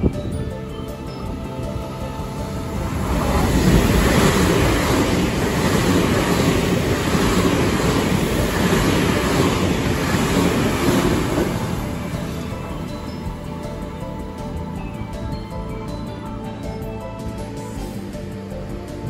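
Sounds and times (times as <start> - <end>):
train passing at speed: 0.0 - 15.3.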